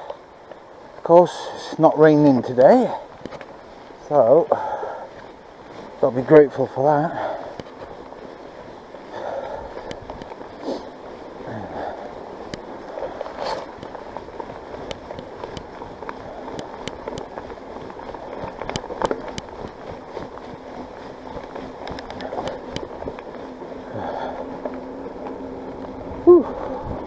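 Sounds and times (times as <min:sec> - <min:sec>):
bike rattling over bumps: 0:00.0 - 0:27.0
tyre and wind noise: 0:00.0 - 0:27.0.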